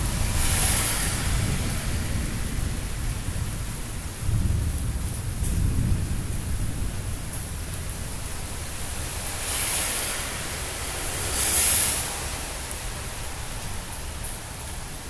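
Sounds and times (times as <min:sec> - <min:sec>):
rain hissing: 0:00.0 - 0:04.6, 0:05.2 - 0:15.0
thunder rumble: 0:00.0 - 0:13.0.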